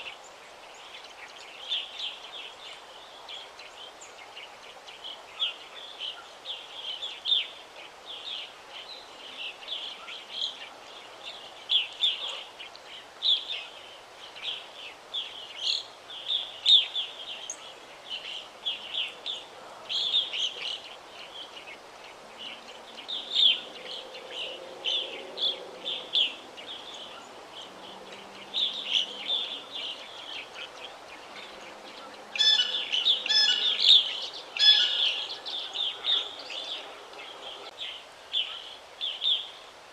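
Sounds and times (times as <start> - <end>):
loud full birdsong: 0.0 - 39.9
songbirds chirping: 0.0 - 39.9.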